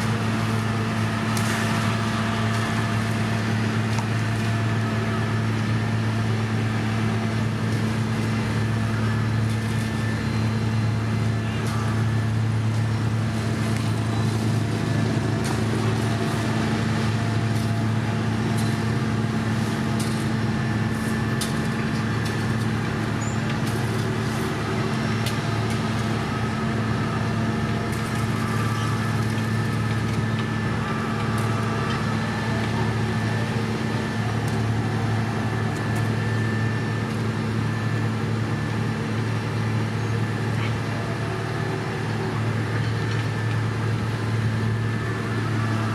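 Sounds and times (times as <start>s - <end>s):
heavy machinery engine hum: 0.0s - 45.9s.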